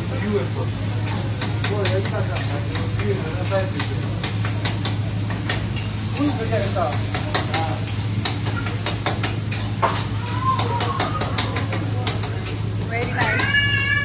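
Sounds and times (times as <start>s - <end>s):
food sizzling in pan: 0.0s - 14.0s.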